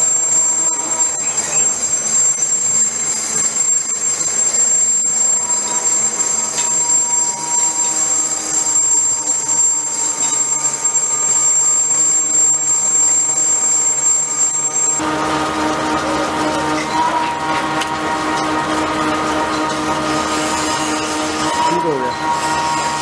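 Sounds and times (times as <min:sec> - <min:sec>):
cutting tool squealing on metal: 0:00.0 - 0:23.0
lathe running: 0:00.0 - 0:23.0.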